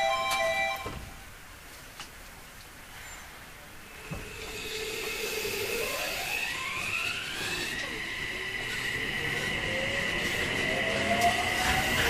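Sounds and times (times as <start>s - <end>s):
train inverter whine: 0.0s - 1.4s, 3.6s - 12.0s.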